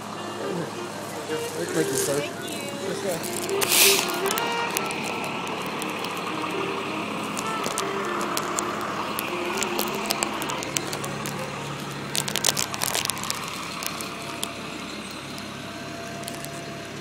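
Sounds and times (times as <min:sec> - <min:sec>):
truck engine running: 0:00.0 - 0:17.0
sharp crackles and clicks: 0:01.8 - 0:17.0.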